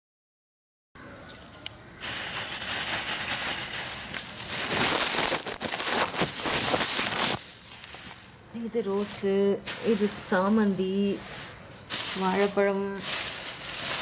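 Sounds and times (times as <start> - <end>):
plastic bags rustling: 2.0 - 14.0.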